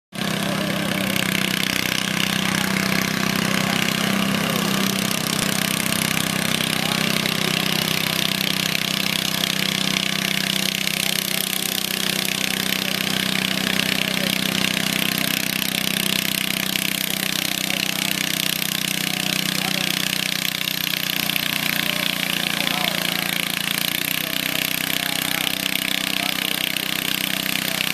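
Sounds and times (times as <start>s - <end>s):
garden tractor engine running: 0.1s - 27.9s.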